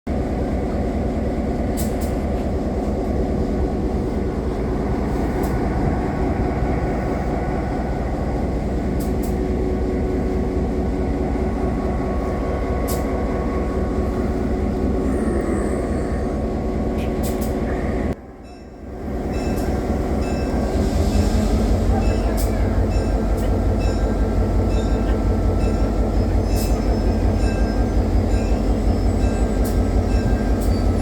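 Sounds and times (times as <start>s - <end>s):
train rumbling: 0.1s - 31.0s.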